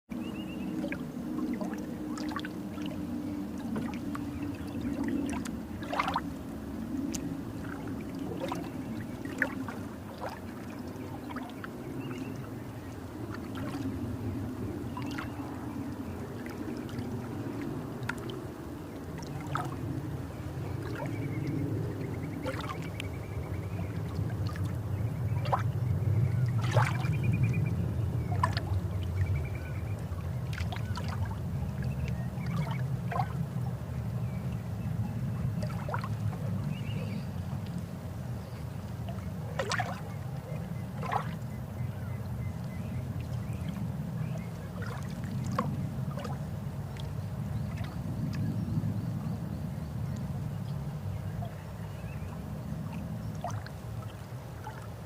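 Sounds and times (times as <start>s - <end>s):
low surf rumble: 0.1s - 55.0s
small water splashes: 0.1s - 55.0s
small waves lapping at shore: 0.1s - 55.0s.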